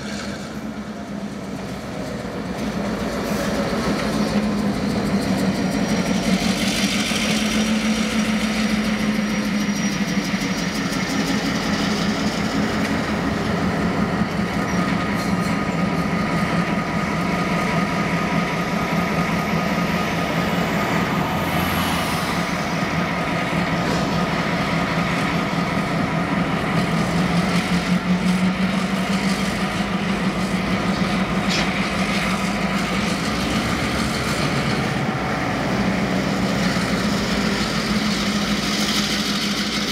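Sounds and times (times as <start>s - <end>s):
locomotive engine drone: 0.0s - 39.9s.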